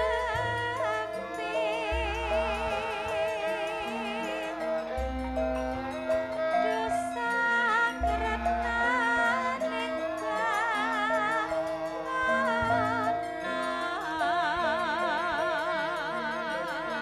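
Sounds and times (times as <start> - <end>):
bowed string instrument: 0.0 - 17.0
metallophone notes: 0.0 - 17.0
woman singing: 0.0 - 17.0.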